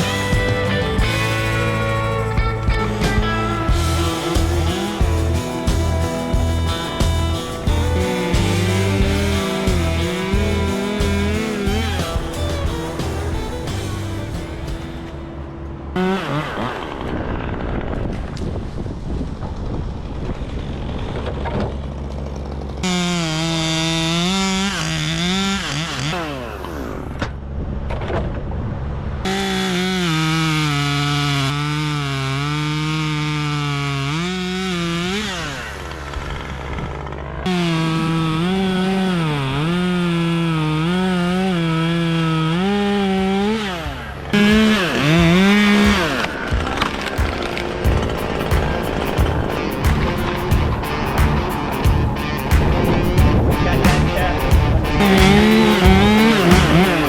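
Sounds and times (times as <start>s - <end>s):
chainsaw cutting wood: 0.0s - 28.3s, 29.2s - 57.0s.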